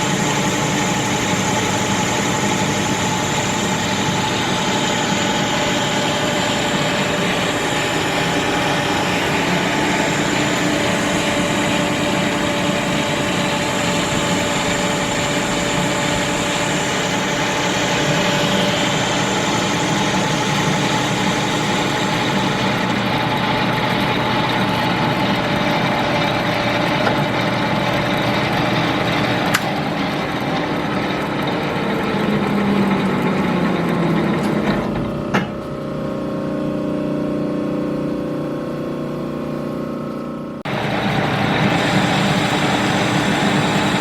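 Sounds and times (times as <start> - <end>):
lathe running with whine: 0.0 - 44.0.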